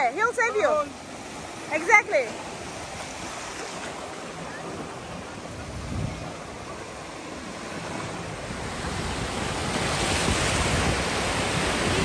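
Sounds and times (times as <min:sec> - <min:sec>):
small waves breaking: 0:00.0 - 0:12.0.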